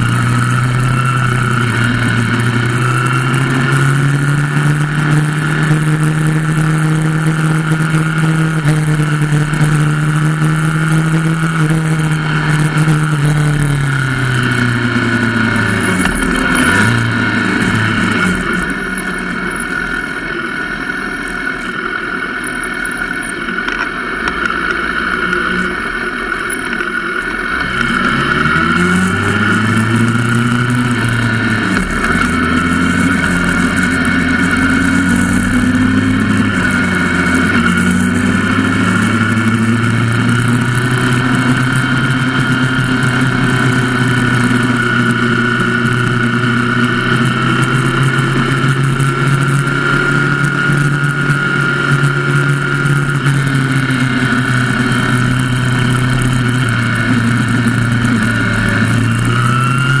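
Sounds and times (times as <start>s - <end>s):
motorcycle engine: 0.0s - 60.0s.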